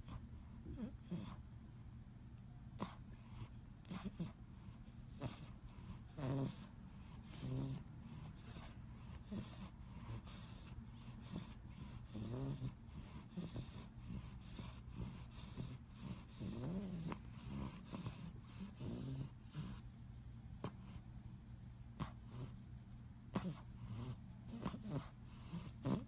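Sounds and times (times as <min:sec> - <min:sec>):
puppy snoring: 0:00.0 - 0:01.4, 0:02.8 - 0:19.9, 0:20.6 - 0:21.1, 0:22.0 - 0:22.7, 0:23.3 - 0:26.0.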